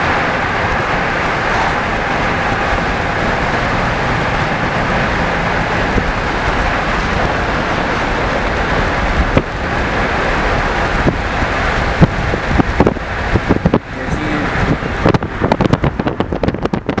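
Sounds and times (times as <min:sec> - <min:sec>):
train passing rumble: 0:00.0 - 0:17.0
wheels clicking over rail joints: 0:00.0 - 0:17.0
wind buffeting microphone: 0:00.0 - 0:17.0.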